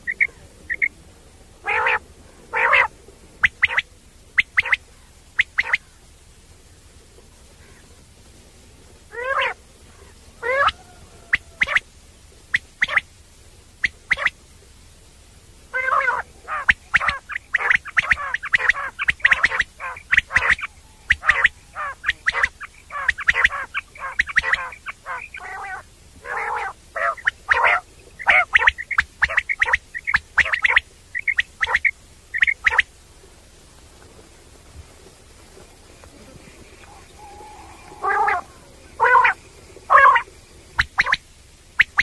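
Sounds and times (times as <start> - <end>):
quail calling: 0.0 - 6.1, 9.1 - 13.2, 13.8 - 14.5, 15.7 - 33.4, 34.0 - 42.0.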